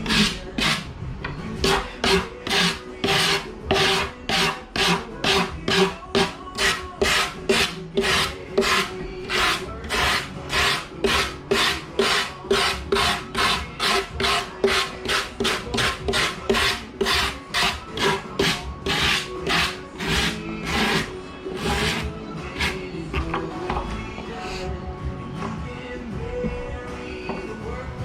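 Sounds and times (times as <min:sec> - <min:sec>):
hand tool scraping strokes: 0:00.0 - 0:00.9, 0:01.6 - 0:23.2.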